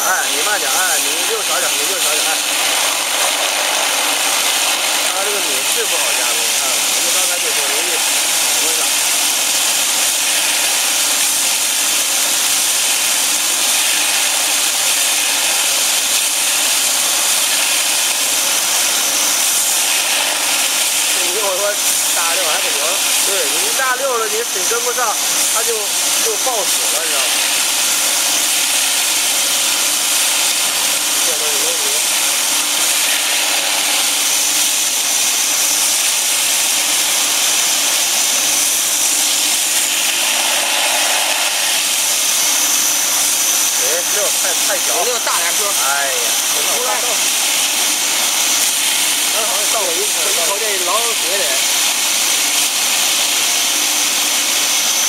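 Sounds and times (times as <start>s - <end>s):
grinding machine high-pitched grinding: 0.0s - 55.0s.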